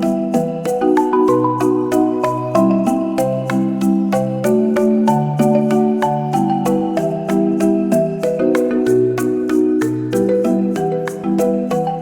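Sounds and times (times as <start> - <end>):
marimba-like mallet music: 0.0 - 12.0.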